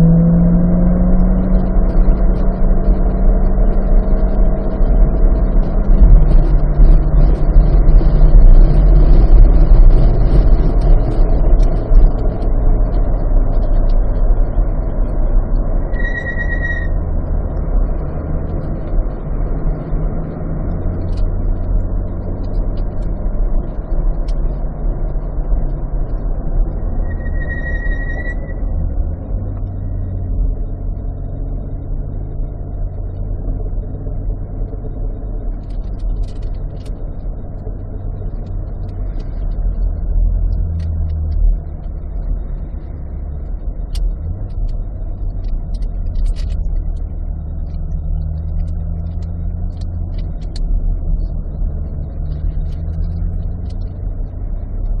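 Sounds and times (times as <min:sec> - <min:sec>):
car engine low drone: 0:00.0 - 0:55.0.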